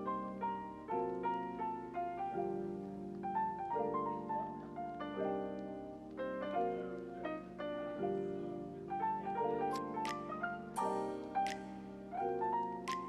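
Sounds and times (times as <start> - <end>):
piano-like keyboard melody: 0.0 - 13.0.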